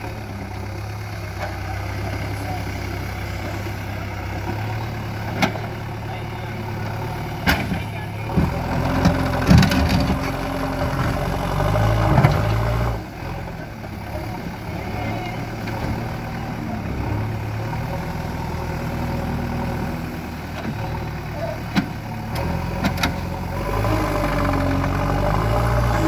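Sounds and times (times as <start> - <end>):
backhoe diesel engine: 0.0 - 26.0.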